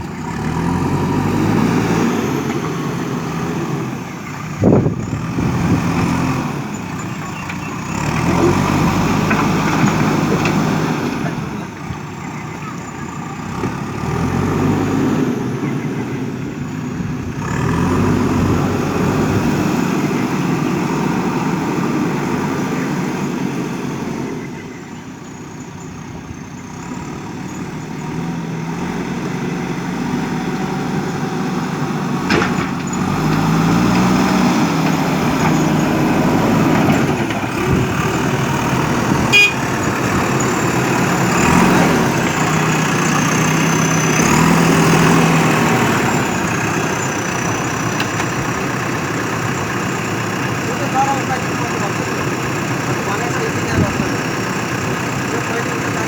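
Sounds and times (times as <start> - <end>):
diesel engine working: 0.0 - 56.0.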